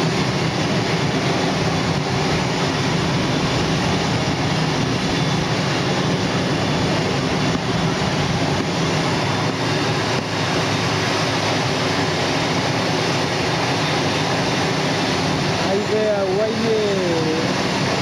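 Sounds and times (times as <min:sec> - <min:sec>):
turboprop engine running: 0:00.0 - 0:18.0.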